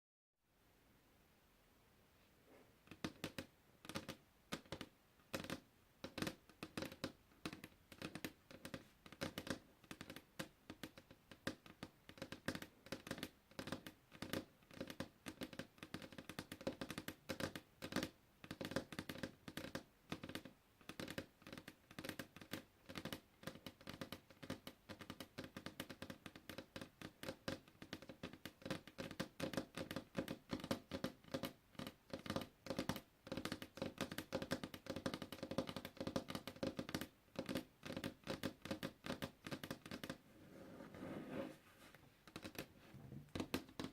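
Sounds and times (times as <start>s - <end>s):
puzzle pieces clicking: 2.9s - 40.2s, 42.2s - 42.7s.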